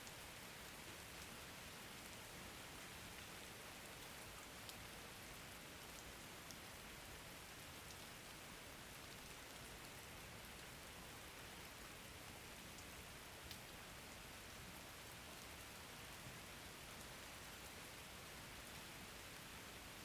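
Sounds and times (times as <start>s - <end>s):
faint rain falling: 0.0s - 20.0s.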